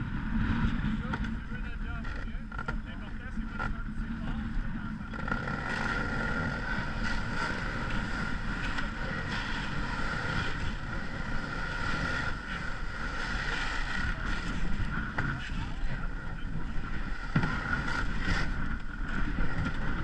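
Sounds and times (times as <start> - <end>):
faint steady whine: 0.0 - 20.0.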